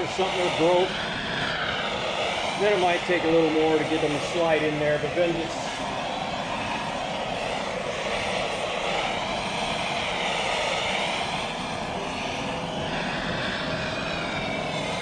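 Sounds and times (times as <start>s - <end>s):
propane torch burning: 0.0s - 15.0s.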